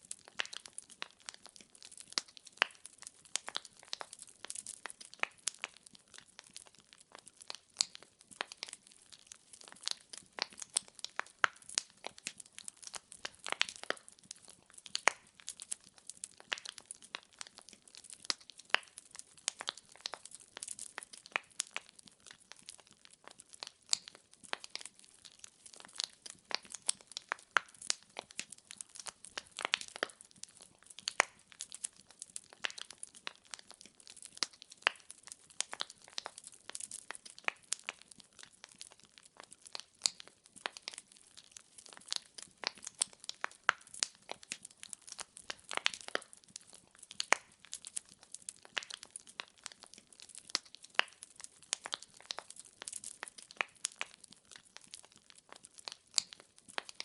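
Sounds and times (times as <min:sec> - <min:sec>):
firewood crackling and popping: 0:00.0 - 0:57.0.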